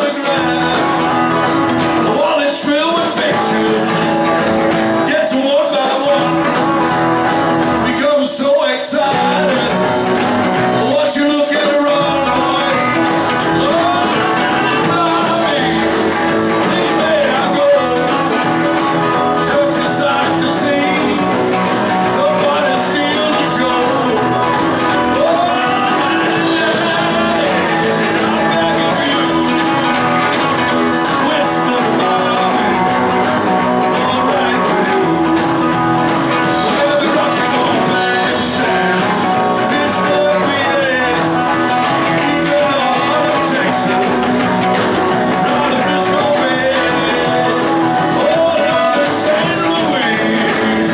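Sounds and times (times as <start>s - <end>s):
drums: 0.0s - 50.9s
electric guitars: 0.0s - 50.9s
keyboard: 0.0s - 50.9s
person singing: 0.0s - 50.9s.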